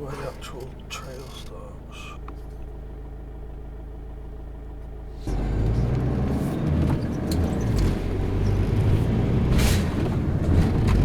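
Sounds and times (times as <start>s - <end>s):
loud rumbling road noise: 0.0s - 11.0s
van engine and road hum: 0.0s - 11.0s.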